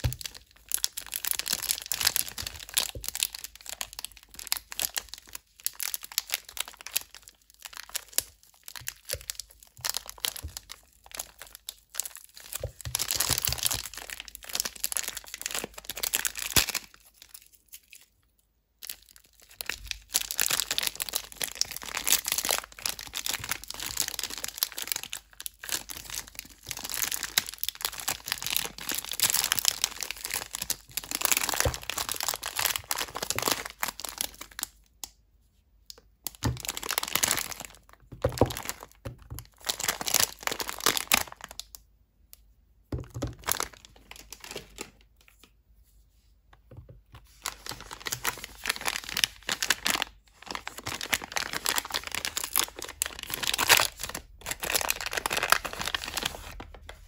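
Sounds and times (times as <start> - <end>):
plastic wrappers crinkling and tearing: 0.0 - 18.2, 18.8 - 34.8, 35.9 - 41.8, 43.0 - 45.5, 47.1 - 57.0.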